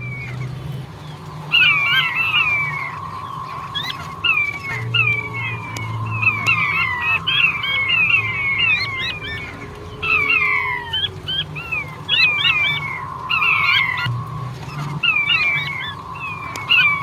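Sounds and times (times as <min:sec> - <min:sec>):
faint steady tone: 0:00.0 - 0:17.0
quail calling high whistled notes: 0:00.0 - 0:17.0
steady low hum: 0:00.0 - 0:17.0.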